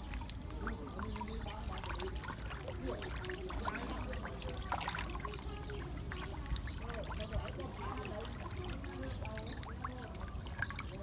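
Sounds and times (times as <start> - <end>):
fish splashing water: 0.0 - 11.0.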